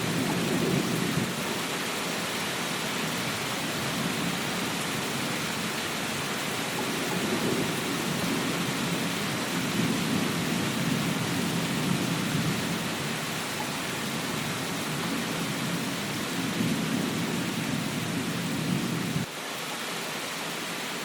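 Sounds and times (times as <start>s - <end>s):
dense rainfall: 0.0s - 21.0s.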